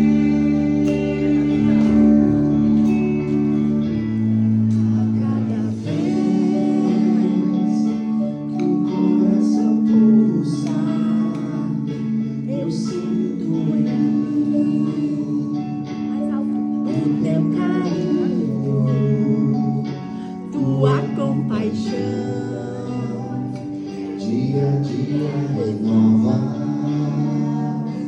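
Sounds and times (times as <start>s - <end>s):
person singing: 0.0s - 28.0s
slow guitar song: 0.0s - 28.0s.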